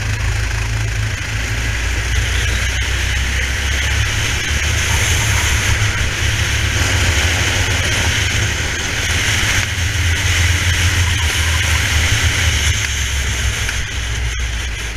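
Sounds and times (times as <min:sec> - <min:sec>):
kart engine running flat out: 0:00.0 - 0:14.9
wind and road hiss: 0:00.0 - 0:14.9.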